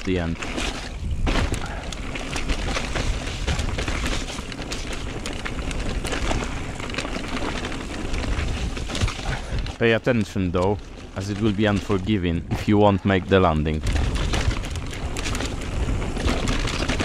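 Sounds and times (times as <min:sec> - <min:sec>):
bike knocks and rattles: 0:00.0 - 0:17.0
bike tyres on dirt trail: 0:00.0 - 0:17.0.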